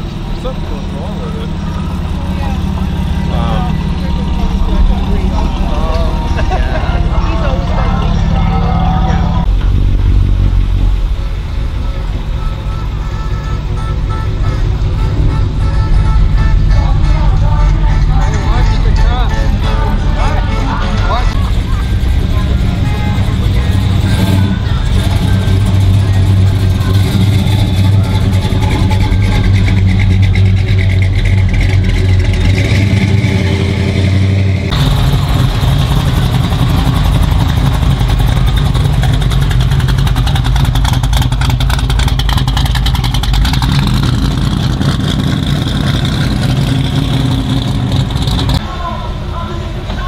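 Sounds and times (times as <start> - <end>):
car engine accelerating: 0.0 - 50.0
car engine low rumble: 0.0 - 50.0.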